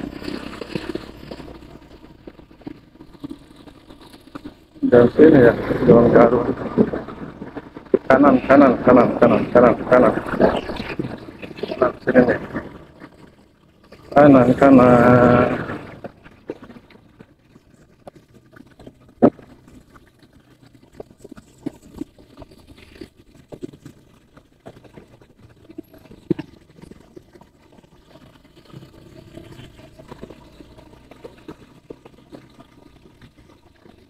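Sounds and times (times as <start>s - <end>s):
knocks and rattles: 0.0s - 34.0s
motorcycle engine hum: 0.0s - 34.0s.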